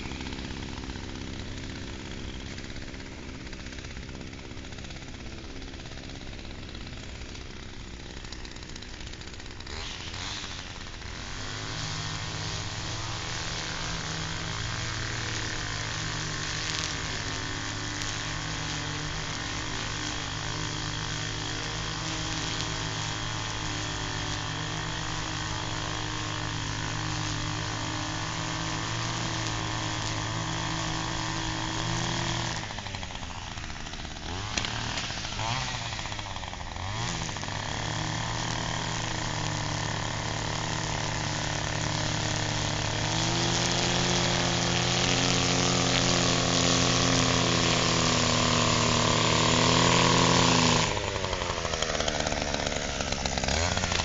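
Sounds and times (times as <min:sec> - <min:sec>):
string trimmer running: 0:00.0 - 0:54.0.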